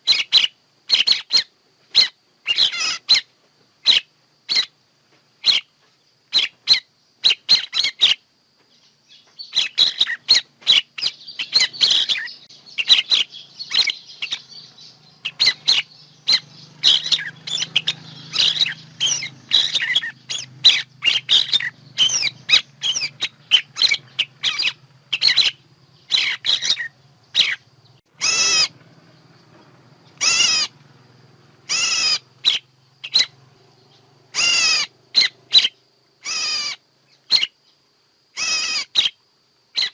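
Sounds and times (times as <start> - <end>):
harsh bird calls: 0.0 - 4.8, 5.4 - 39.2
songbirds chirping: 0.0 - 39.9.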